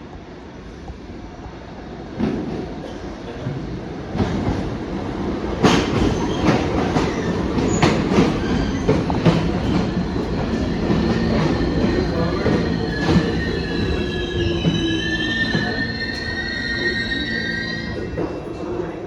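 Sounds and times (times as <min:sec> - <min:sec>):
subway train wheels clacking: 0:00.2 - 0:19.0.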